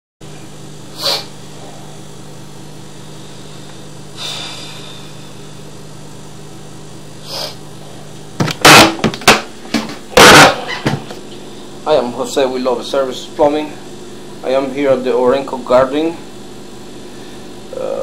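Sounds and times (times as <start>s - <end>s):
low electrical hum: 0.2s - 18.0s.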